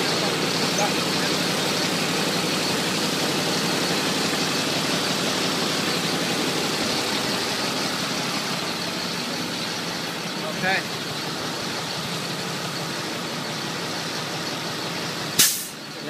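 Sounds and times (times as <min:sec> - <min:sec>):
motorcycle engine idling: 0:00.0 - 0:15.2.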